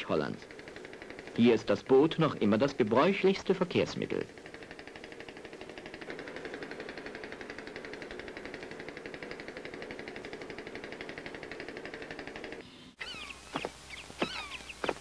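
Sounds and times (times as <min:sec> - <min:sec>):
outboard motor puttering: 0:00.0 - 0:15.0.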